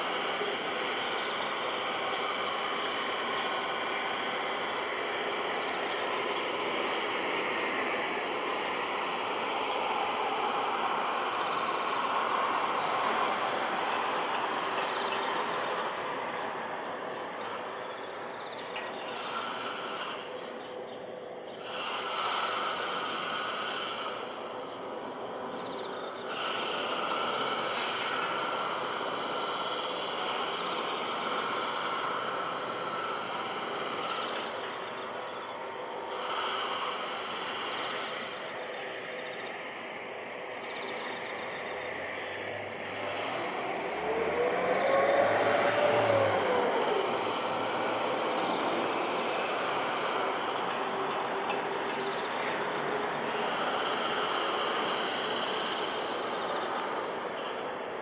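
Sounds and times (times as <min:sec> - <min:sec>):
distant jet engine roar: 0:00.0 - 0:58.0.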